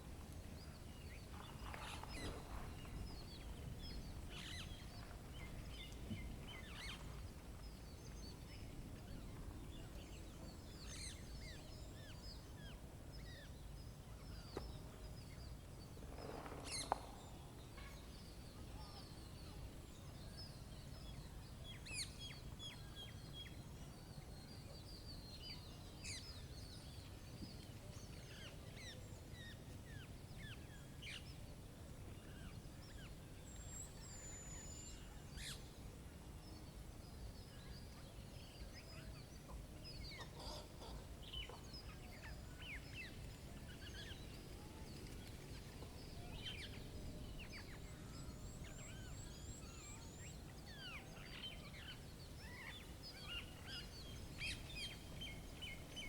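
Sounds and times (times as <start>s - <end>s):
small birds chirping: 0.0s - 31.5s, 36.4s - 56.0s.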